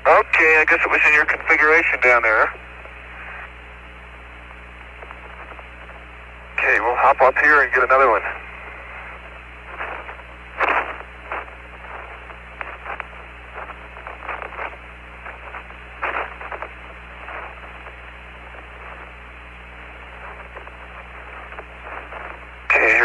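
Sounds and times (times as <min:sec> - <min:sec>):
crackles: 0:00.0 - 0:23.0
low steady hum: 0:00.0 - 0:23.0
noise bursts: 0:00.0 - 0:23.0
radio static hiss: 0:00.0 - 0:23.0.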